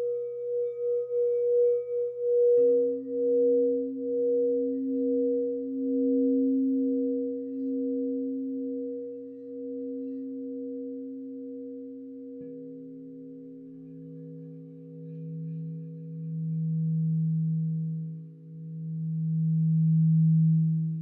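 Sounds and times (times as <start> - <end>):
bowl struck: 0.0 - 21.0
singing bowls ringing: 0.0 - 21.0.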